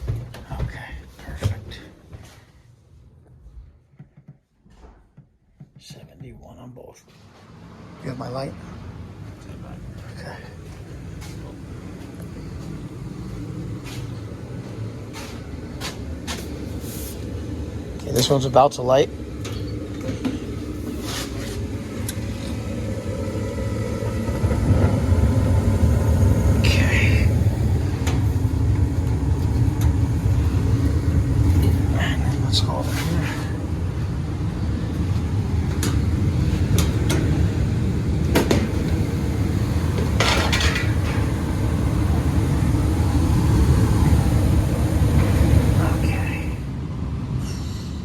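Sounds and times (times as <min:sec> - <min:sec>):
furnace burners rumbling: 0:00.0 - 0:48.0.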